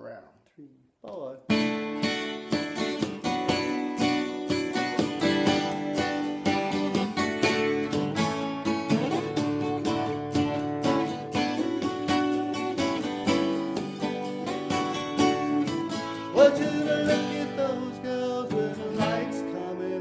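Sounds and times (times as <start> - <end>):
acoustic guitars strumming chords: 1.5 - 20.0.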